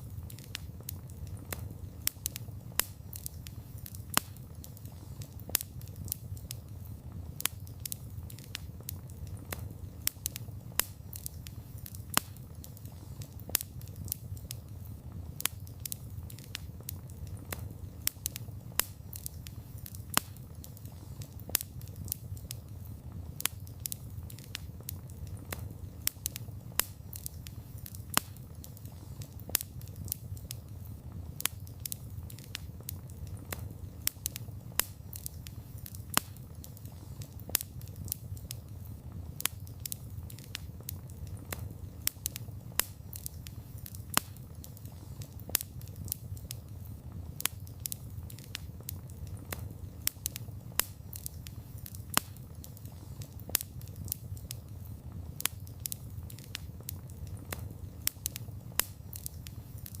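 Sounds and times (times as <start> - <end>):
campfire crackling and popping: 0.0 - 60.0
low fire rumble: 0.0 - 60.0.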